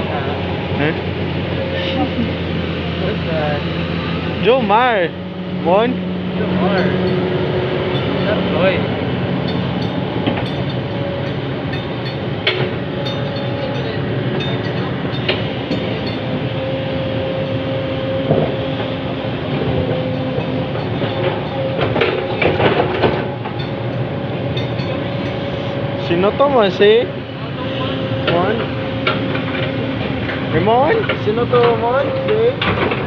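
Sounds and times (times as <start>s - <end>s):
heavy diesel machinery running: 0.0s - 33.0s
wavering mechanical whine: 0.0s - 33.0s.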